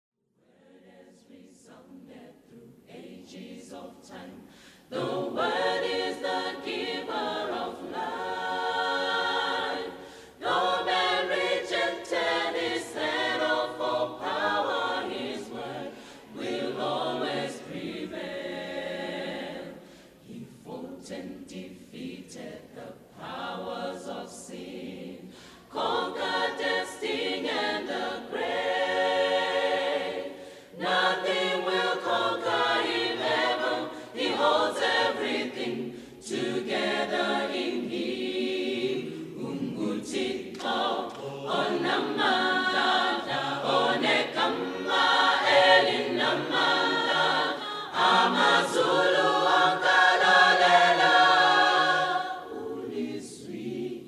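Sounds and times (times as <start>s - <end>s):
choir singing a cappella: 0.4s - 54.0s.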